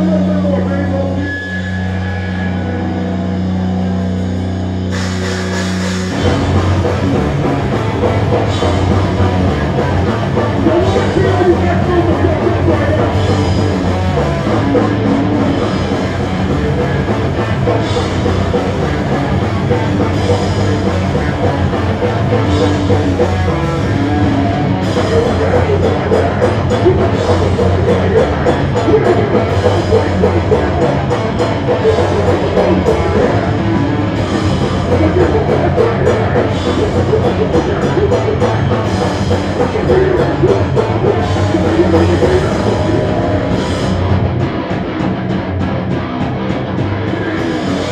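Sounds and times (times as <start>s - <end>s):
bass guitar: 0.0s - 47.9s
distorted electric guitars: 0.0s - 47.9s
pounding drum kit: 0.0s - 47.9s.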